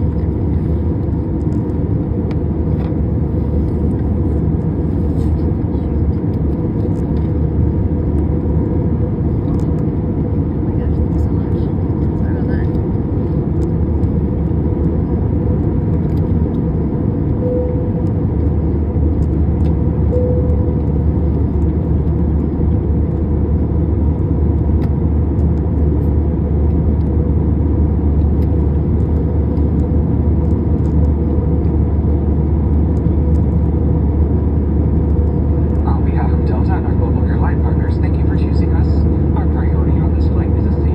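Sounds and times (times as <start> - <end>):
jet engines droning: 0.0 - 40.9.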